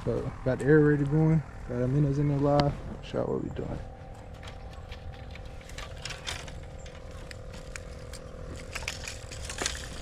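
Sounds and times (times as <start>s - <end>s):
aerator pump humming: 0.0s - 10.0s.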